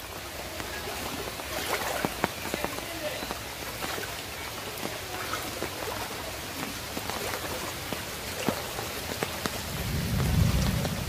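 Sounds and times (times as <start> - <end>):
sharp drips: 0.0 - 11.0
steady rain on water: 0.0 - 11.0.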